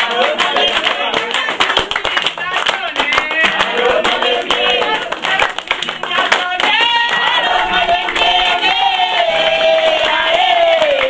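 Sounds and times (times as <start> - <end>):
people singing: 0.0 - 11.0
rhythmic hand clapping: 0.0 - 11.0.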